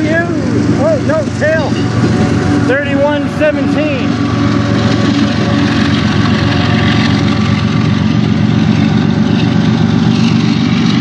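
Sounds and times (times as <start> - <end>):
locomotive engine drone: 0.0 - 11.0
moving train noise: 0.0 - 11.0.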